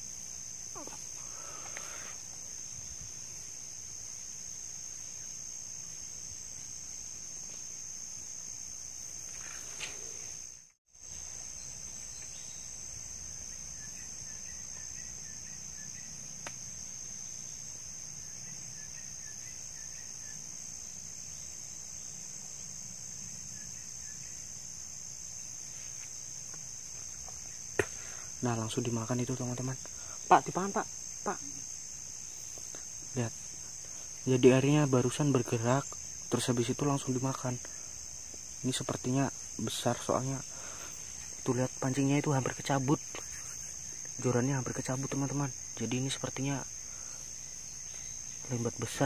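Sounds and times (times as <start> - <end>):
forest insects droning: 0.0 - 49.0.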